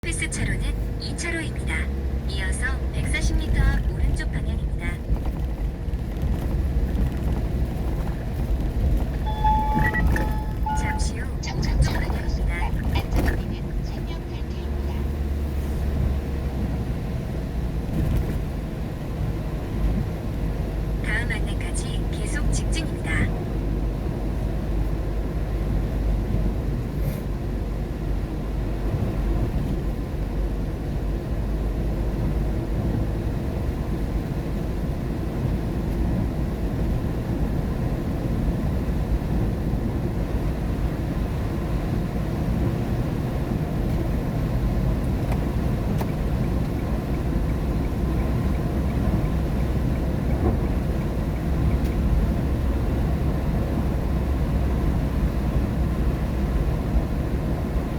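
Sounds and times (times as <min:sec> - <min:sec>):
car engine: 0:00.0 - 0:57.9
tyre and road noise on wet road: 0:03.6 - 0:11.0, 0:12.0 - 0:21.1, 0:23.1 - 0:57.9.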